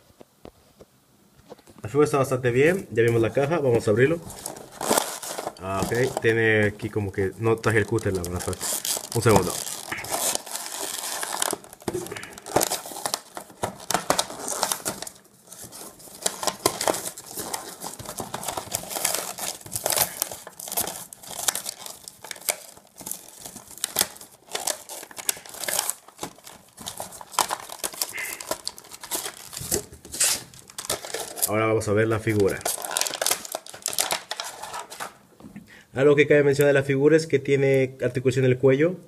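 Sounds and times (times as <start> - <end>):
plastic bag crinkling: 3.2 - 35.2.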